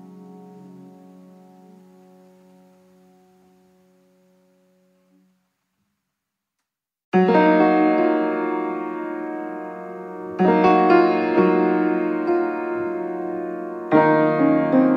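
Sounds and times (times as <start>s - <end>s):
piano chords: 0.0s - 5.3s, 7.2s - 14.9s.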